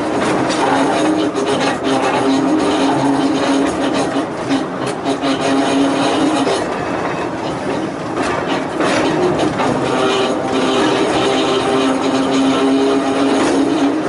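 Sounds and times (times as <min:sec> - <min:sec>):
clicks over rail joints: 0:00.0 - 0:14.0
wheel and rail rumble: 0:00.0 - 0:14.0.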